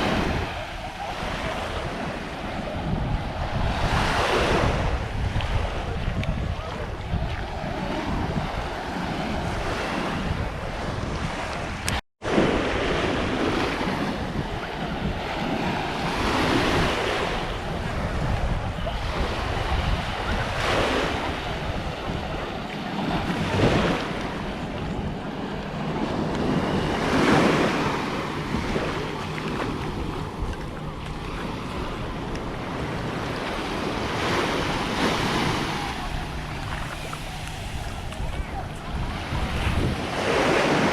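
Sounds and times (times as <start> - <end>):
small waves washing onto beach: 0.0 - 40.9
wind buffeting microphone: 0.0 - 40.9.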